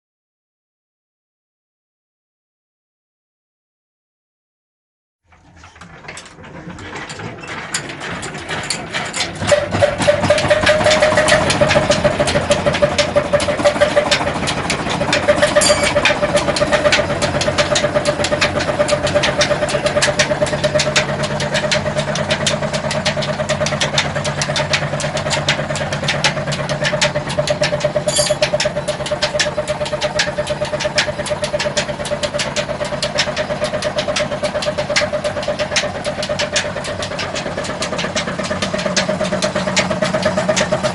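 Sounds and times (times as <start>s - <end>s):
diesel engine running: 5.3s - 40.9s.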